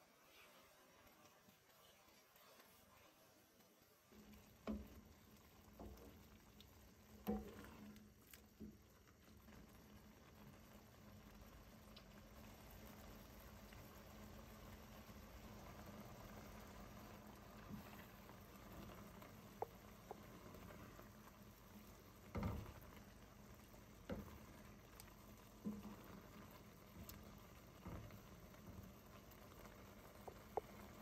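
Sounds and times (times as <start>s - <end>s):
faint hiss: 0.0s - 31.0s.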